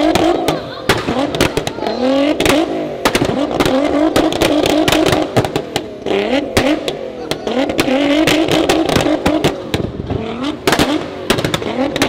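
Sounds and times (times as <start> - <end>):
car engine revving: 0.0 - 12.0
exhaust pops and bangs: 0.0 - 12.0.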